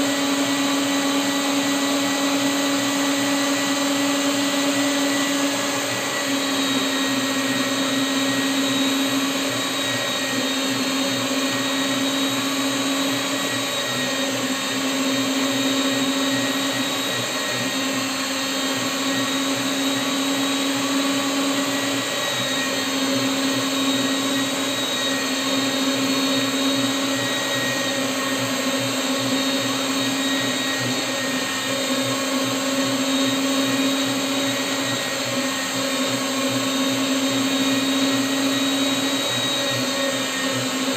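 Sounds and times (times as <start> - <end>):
electric meat grinder motor whine: 0.0 - 40.9.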